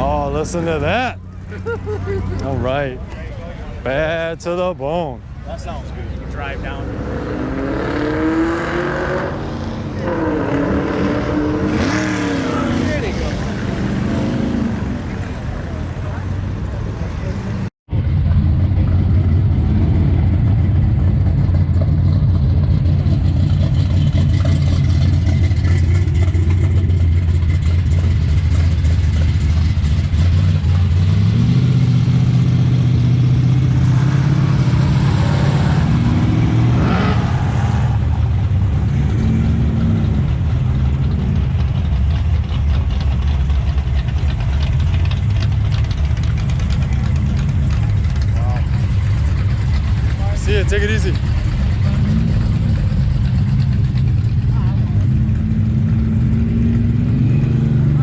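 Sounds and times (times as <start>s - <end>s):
car engine rumbling and revving: 0.0s - 58.0s.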